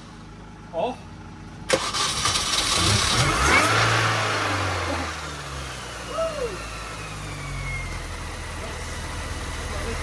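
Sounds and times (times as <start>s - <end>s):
car engine revving and idling: 0.0s - 10.0s.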